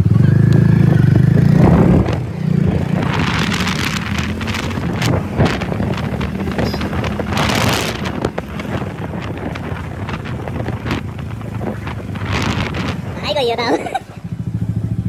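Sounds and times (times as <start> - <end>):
wind buffeting microphone: 0.0 - 14.2
vehicle engine running: 0.0 - 15.0.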